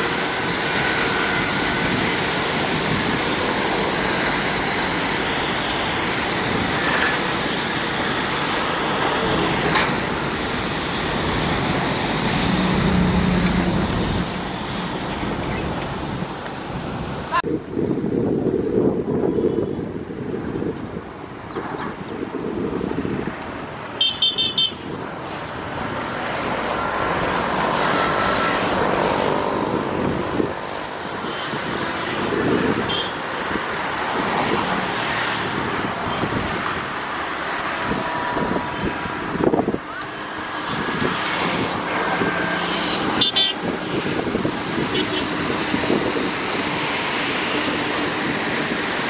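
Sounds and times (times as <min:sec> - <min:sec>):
goods train rumbling past: 0:00.0 - 0:17.4, 0:24.8 - 0:49.0.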